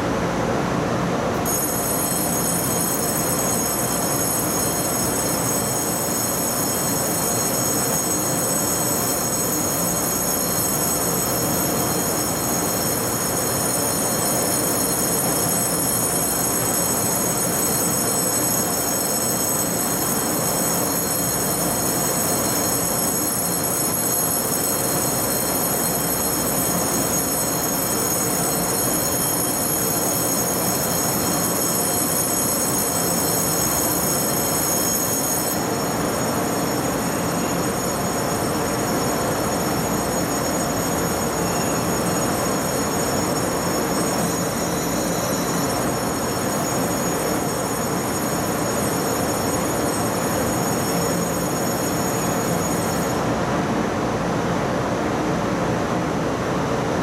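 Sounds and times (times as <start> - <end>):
electric train noise: 1.3 - 53.4
high-pitched whining tones: 1.4 - 53.3.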